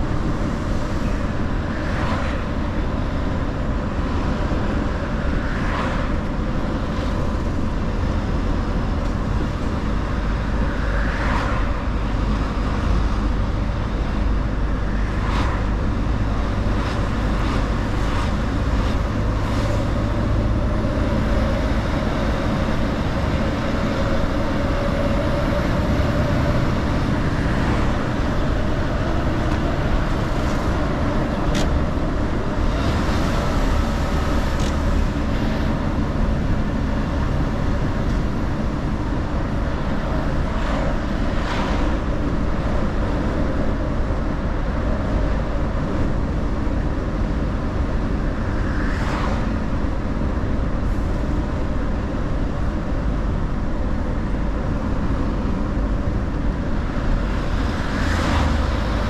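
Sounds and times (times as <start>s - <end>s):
truck engine and road rumble: 0.0s - 59.0s.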